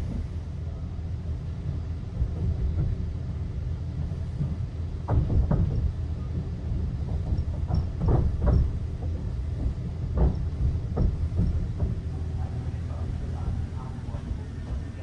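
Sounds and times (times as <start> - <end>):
train coach low rumble: 0.0 - 15.0
wheels clunking over track: 1.4 - 15.0.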